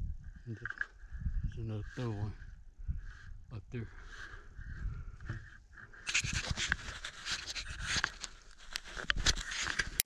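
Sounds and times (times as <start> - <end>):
rustling at microphone: 0.0 - 10.0.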